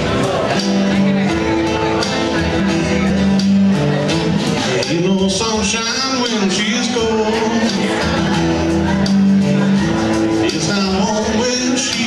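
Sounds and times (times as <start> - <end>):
acoustic guitars strumming: 0.0 - 12.0
person singing: 0.0 - 12.0.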